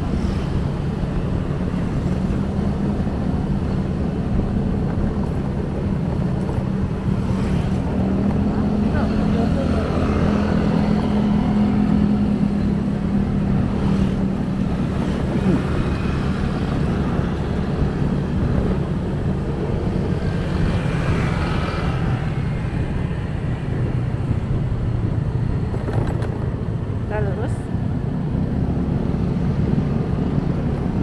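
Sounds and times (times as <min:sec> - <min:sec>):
motorcycle engine hum: 0:00.0 - 0:31.0
road and wind noise: 0:00.0 - 0:31.0.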